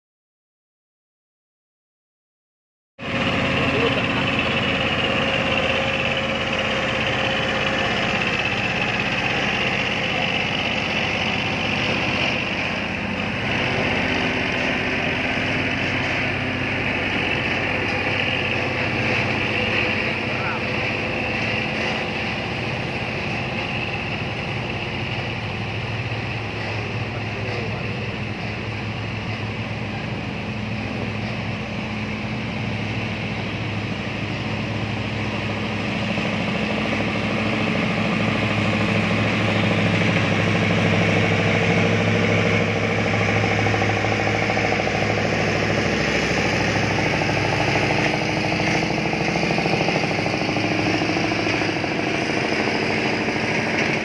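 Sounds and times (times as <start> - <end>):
heavy truck engines humming: 3.0 - 54.0.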